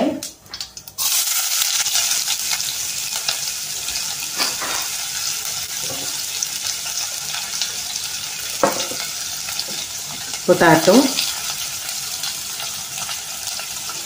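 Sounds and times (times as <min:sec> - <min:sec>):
onion sizzling in hot oil: 0:00.1 - 0:14.0.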